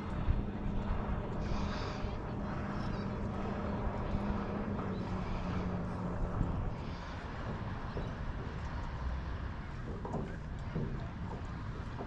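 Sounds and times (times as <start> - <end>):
distant engine drone: 0.0 - 12.0
outdoor noise: 0.0 - 12.0
wind on microphone: 0.0 - 12.0.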